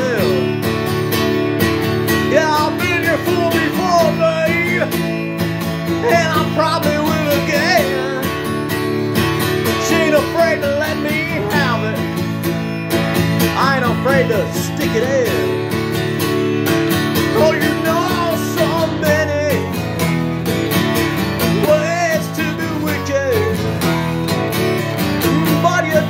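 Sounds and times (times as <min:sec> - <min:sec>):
strummed guitar: 0:00.0 - 0:26.0.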